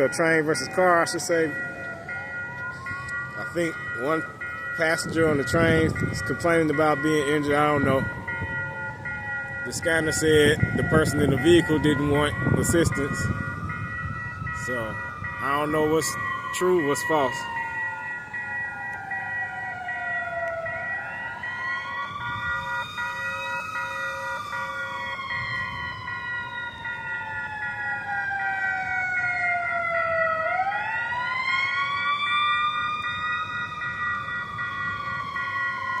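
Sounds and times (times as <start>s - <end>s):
siren wailing: 0.0s - 36.0s.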